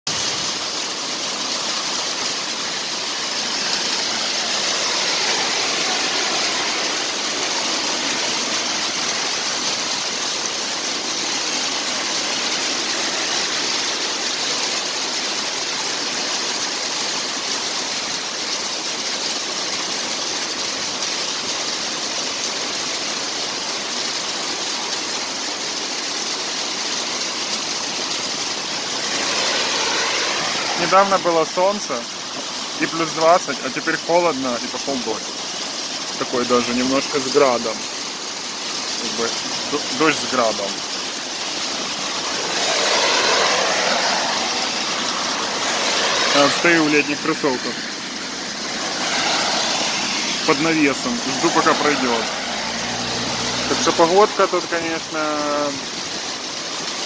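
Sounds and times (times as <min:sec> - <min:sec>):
heavy rain and hail on road: 0:00.1 - 0:57.0.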